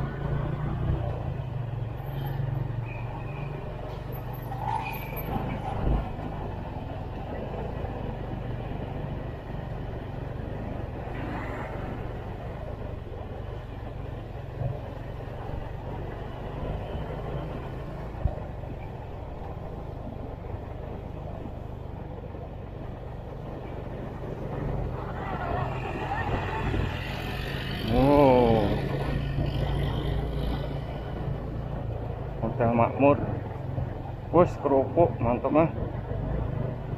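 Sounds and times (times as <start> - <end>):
road noise: 0.0 - 36.9.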